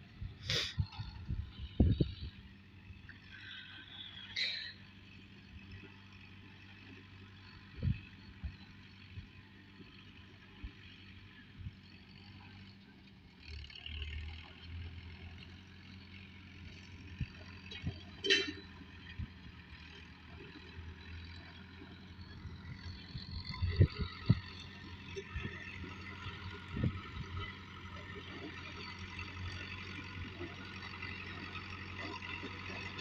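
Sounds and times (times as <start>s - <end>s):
tractor engine humming: 0.0s - 33.0s.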